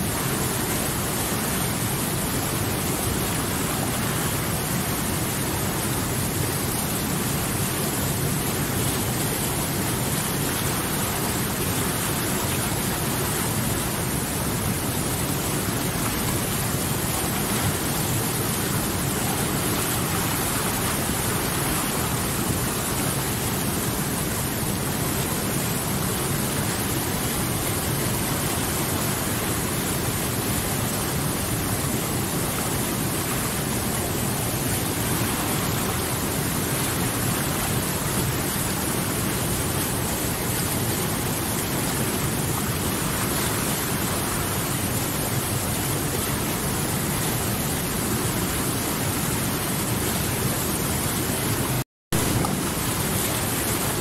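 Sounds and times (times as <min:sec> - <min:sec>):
river rapids roaring: 0:00.0 - 0:54.0.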